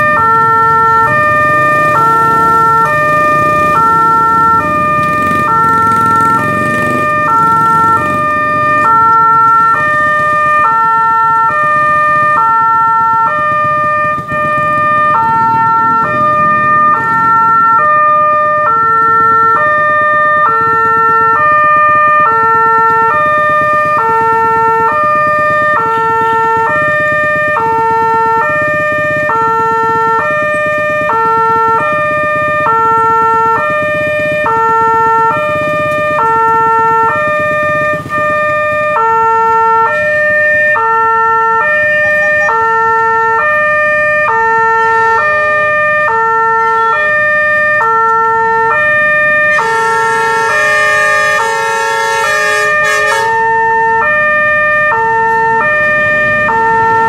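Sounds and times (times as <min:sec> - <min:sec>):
level crossing two-tone alarm: 0:00.0 - 0:57.0.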